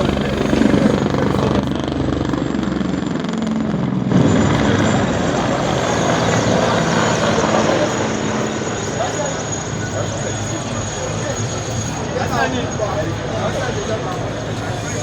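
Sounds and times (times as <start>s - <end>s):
helicopter droning: 0.0s - 15.0s.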